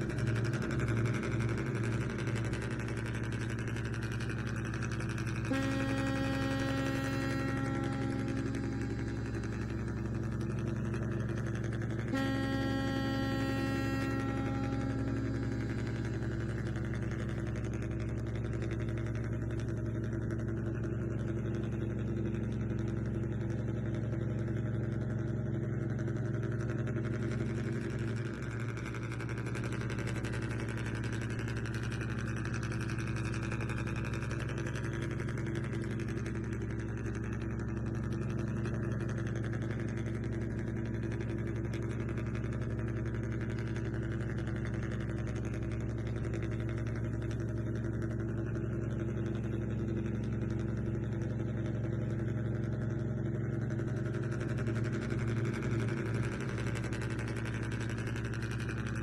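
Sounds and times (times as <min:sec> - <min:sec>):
model vehicle engine hum: 0:00.0 - 0:59.0.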